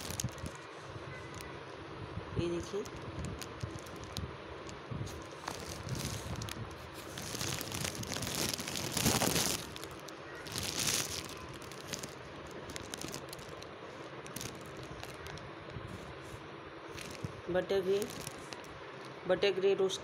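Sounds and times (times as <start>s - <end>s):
plastic bag crinkling: 0.0s - 1.5s, 2.6s - 15.5s, 16.9s - 19.2s.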